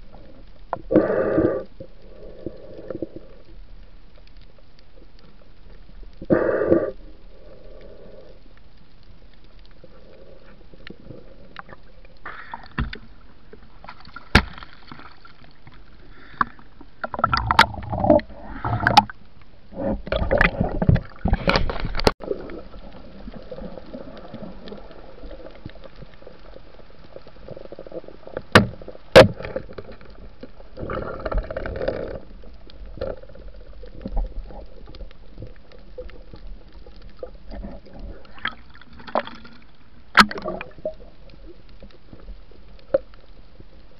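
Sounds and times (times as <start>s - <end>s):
underwater gurgling: 0.0s - 43.9s.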